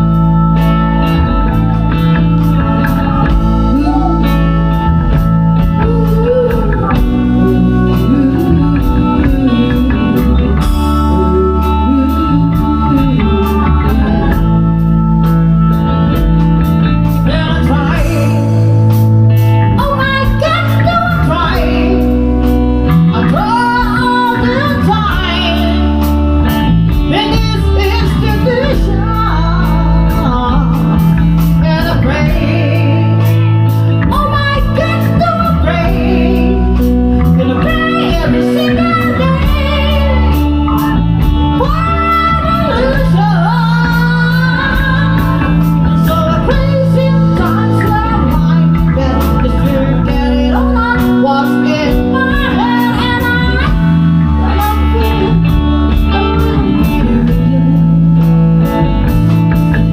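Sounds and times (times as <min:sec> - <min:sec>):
person singing: 0:00.0 - 0:15.8, 0:17.0 - 0:59.9
rock band playing live: 0:00.0 - 0:59.9.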